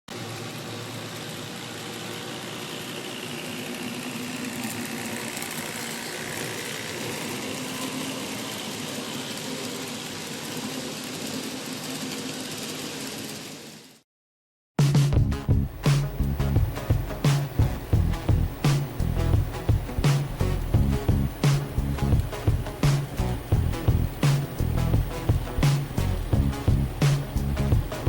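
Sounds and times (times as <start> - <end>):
mechanical running noise: 0.1 - 14.0, 15.3 - 28.0.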